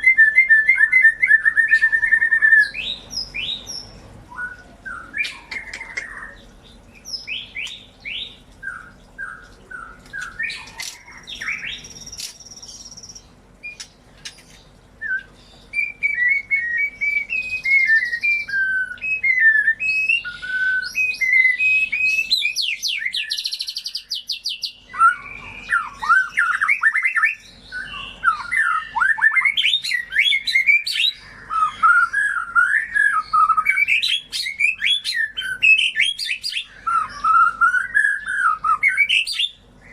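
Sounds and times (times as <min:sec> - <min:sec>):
bird singing whistled phrases: 0:00.0 - 0:06.4, 0:07.0 - 0:13.9, 0:15.0 - 0:39.9.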